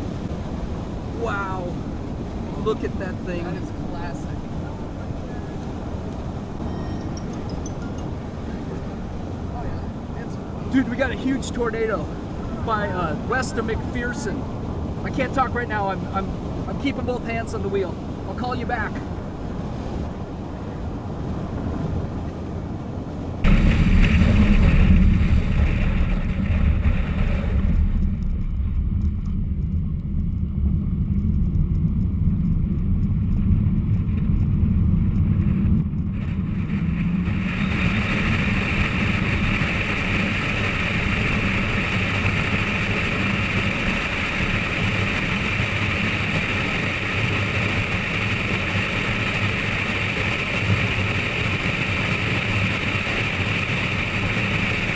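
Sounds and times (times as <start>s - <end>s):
car engine and road rumble: 0.0s - 54.9s
wind noise: 0.0s - 54.9s.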